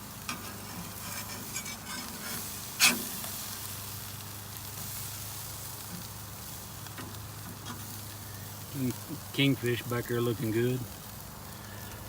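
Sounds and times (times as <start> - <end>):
fish sizzling on a grill: 0.0 - 12.0.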